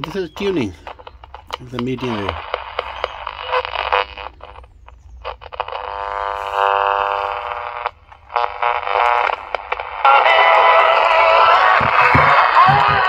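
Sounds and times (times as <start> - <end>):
radio static hissing and crackling: 0.0 - 13.0.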